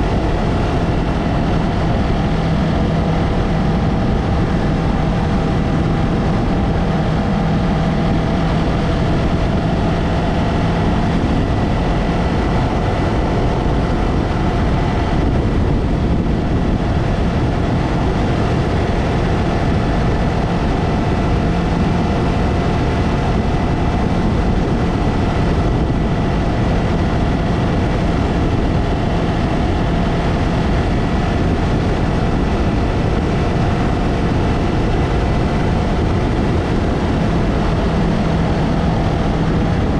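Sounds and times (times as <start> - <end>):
motorcycle engine running evenly: 0.0 - 39.9
wind noise rushing: 0.0 - 39.9.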